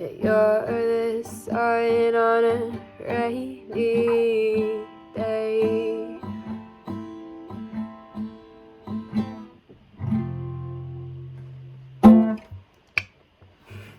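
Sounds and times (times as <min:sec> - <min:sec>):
acoustic guitar playing: 0:00.0 - 0:12.7.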